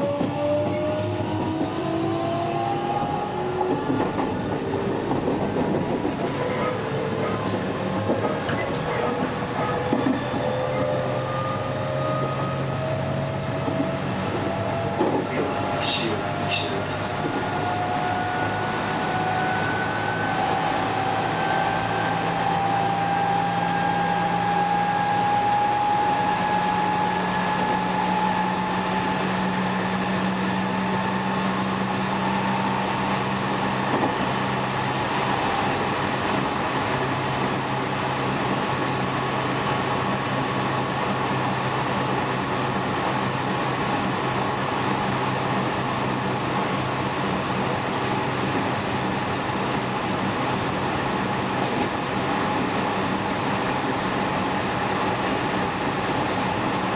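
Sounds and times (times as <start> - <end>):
wheel and rail rumble: 0.0 - 56.9.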